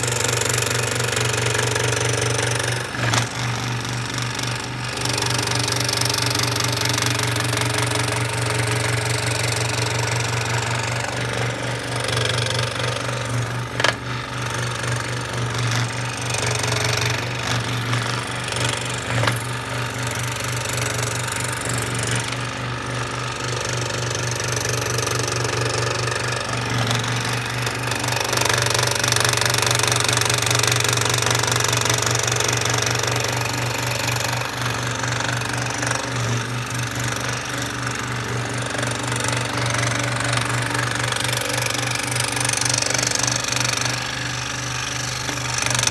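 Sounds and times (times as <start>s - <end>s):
power tool working wood: 0.0s - 45.9s.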